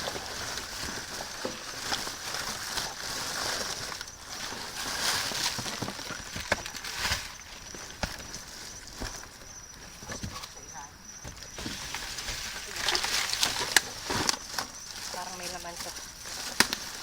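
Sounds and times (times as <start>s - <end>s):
items knocking: 0.0s - 17.0s
plastic bags rustling: 0.0s - 17.0s.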